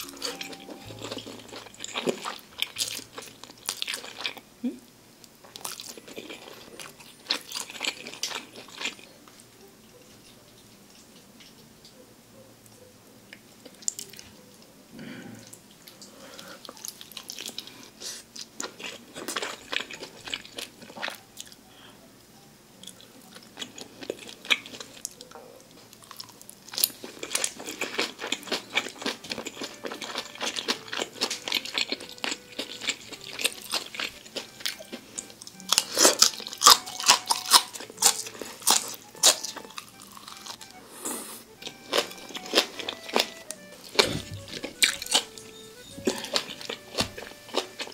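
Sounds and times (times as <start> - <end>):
person chewing crunchy food: 0.0 - 4.5, 5.4 - 9.2, 15.4 - 21.6, 22.8 - 47.9.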